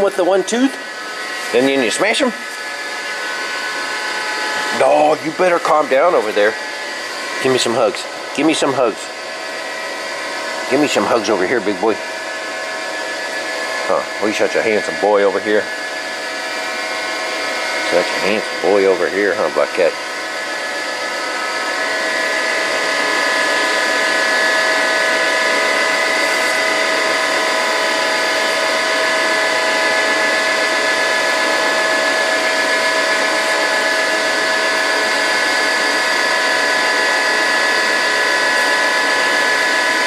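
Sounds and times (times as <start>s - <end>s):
motor-driven machine whining: 0.0s - 40.0s.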